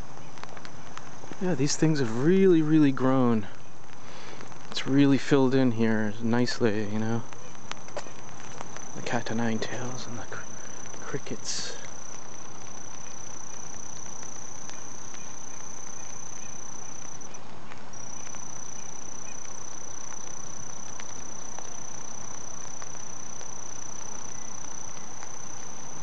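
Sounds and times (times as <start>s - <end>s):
background hiss: 0.0s - 26.0s
crickets trilling: 0.0s - 26.0s.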